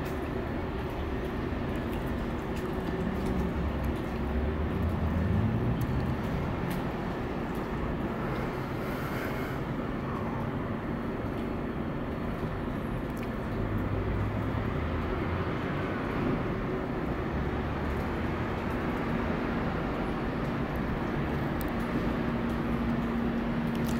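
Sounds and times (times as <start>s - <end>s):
city background rumble: 0.0s - 23.9s.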